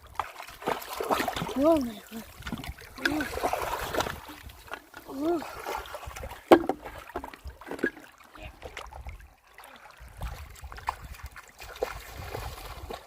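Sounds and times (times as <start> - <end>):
river water trickling: 0.0 - 13.0.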